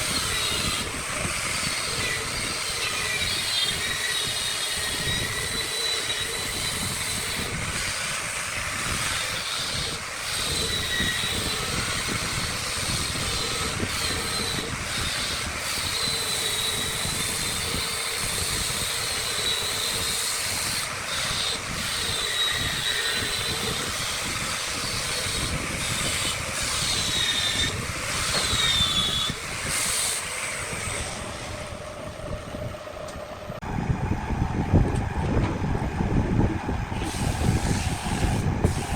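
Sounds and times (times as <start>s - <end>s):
turning tool squealing on wood: 0.0s - 31.9s, 37.0s - 38.9s
wood lathe running: 0.0s - 33.5s, 36.8s - 38.9s.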